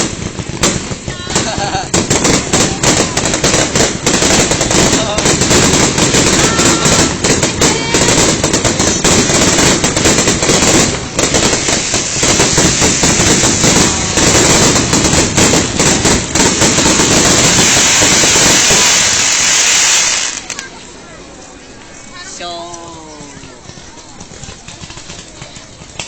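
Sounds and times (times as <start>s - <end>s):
fireworks bursts and crackling: 0.0s - 21.5s, 22.9s - 26.0s.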